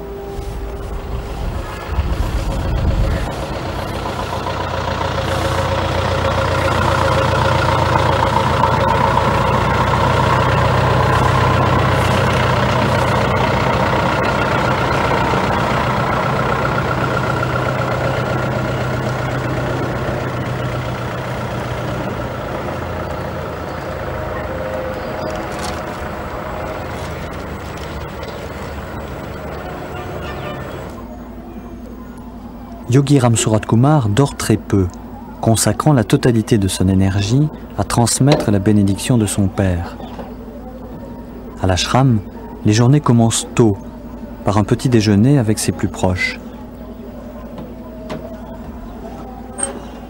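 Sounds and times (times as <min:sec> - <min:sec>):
vehicle engine humming: 0:00.0 - 0:50.0.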